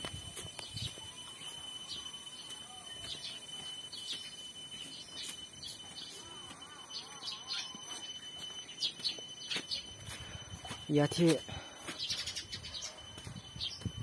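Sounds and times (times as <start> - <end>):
steady thin high-pitched tone: 0.0 - 14.0
small birds chirping: 0.4 - 11.1, 11.7 - 14.0.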